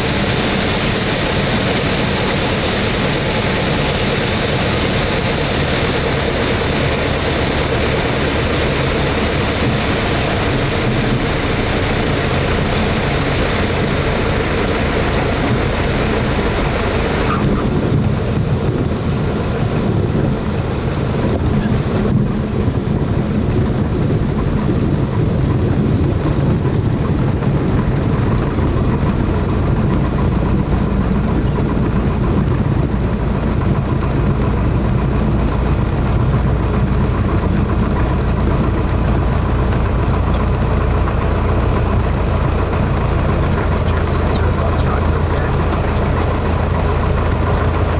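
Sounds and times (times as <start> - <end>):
propeller airplane engine drone: 0.0 - 47.9.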